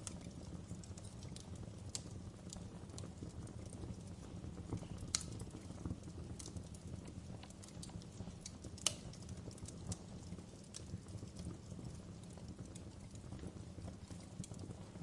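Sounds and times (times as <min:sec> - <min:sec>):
loud fire pops: 0:00.0 - 0:15.0
wood fire crackling: 0:00.0 - 0:15.0.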